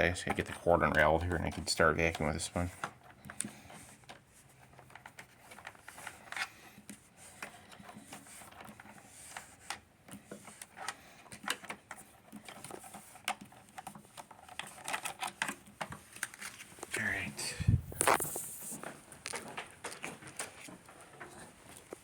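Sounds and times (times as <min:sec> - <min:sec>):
cord and plug rattling on plastic: 0:00.0 - 0:17.0, 0:17.7 - 0:22.0.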